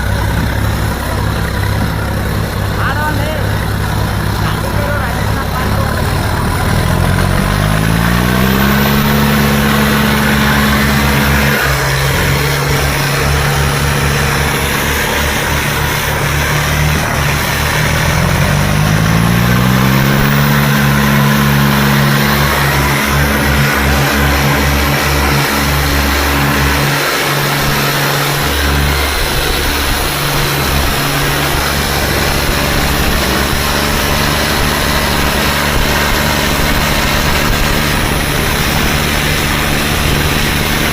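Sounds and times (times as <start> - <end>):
tractor diesel engine revving: 0.0 - 40.9.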